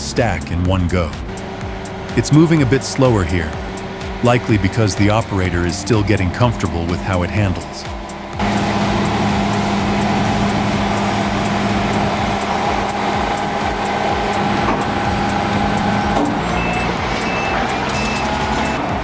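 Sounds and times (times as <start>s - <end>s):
heavy diesel machine running: 0.0s - 19.0s
reversing alarm beeping: 0.0s - 19.0s.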